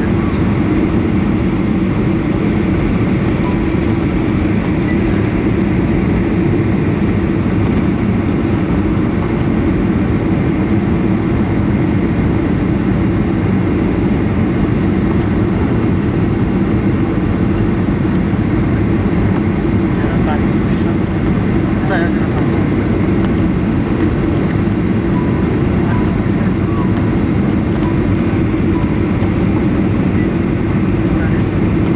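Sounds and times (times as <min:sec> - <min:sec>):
jet airliner cabin noise: 0:00.0 - 0:31.9.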